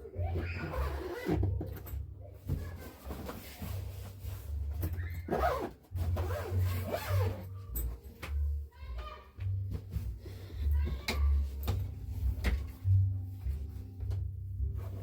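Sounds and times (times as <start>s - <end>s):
rubbing and handling noises: 0.0s - 15.0s.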